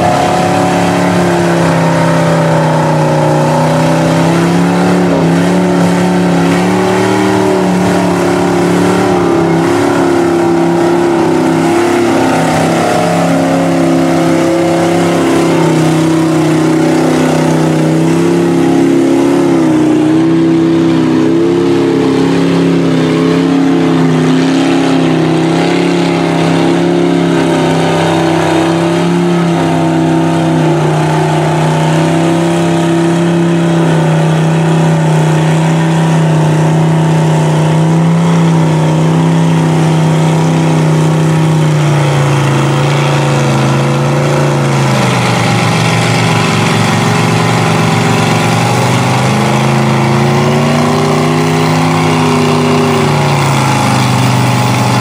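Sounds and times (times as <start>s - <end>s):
truck engines droning under load: 0.0s - 55.0s.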